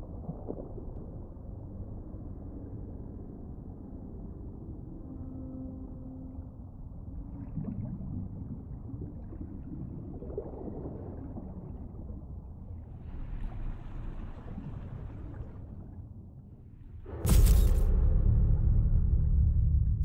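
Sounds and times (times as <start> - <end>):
deep underwater rumble: 0.0 - 20.0.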